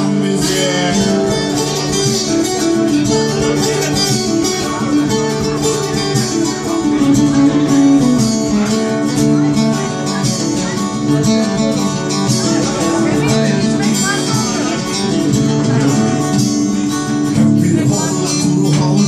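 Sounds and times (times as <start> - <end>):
plucked strings folk-rock instrumental: 0.0 - 19.0.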